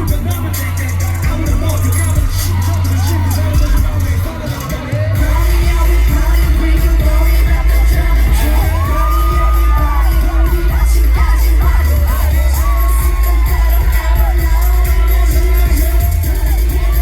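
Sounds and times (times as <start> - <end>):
dance music with heavy bass: 0.0 - 17.0
fans screaming: 0.0 - 17.0.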